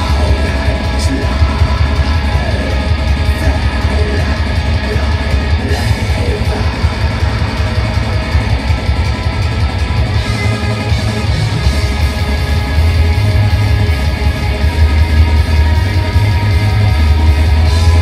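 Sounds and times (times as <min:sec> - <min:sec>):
metal band playing live: 0:00.0 - 0:18.0.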